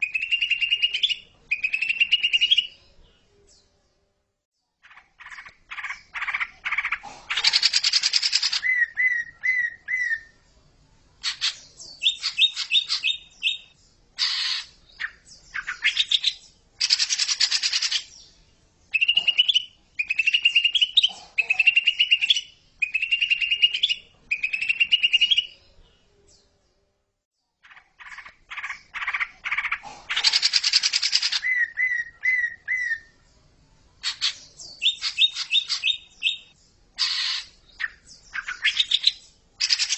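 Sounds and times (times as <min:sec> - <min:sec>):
bird chattering and whistling: 0:00.0 - 0:02.8, 0:04.8 - 0:10.4, 0:11.2 - 0:18.2, 0:18.9 - 0:25.6, 0:27.6 - 0:33.2, 0:34.0 - 0:39.9.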